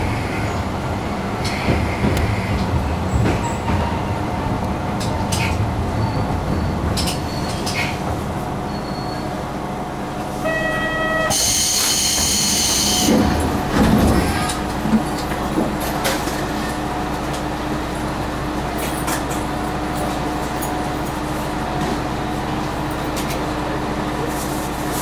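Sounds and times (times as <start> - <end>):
train engine hum: 0.0 - 25.0
wheel and rail noise: 0.0 - 25.0.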